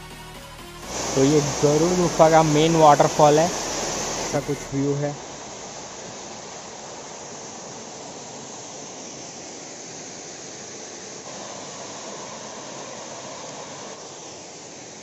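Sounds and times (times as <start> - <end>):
small waterfall rushing: 0.8 - 15.0.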